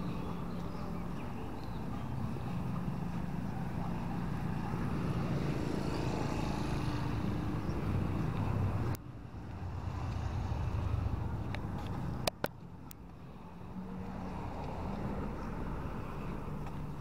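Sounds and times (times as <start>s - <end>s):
passing traffic rumble: 0.0s - 17.0s.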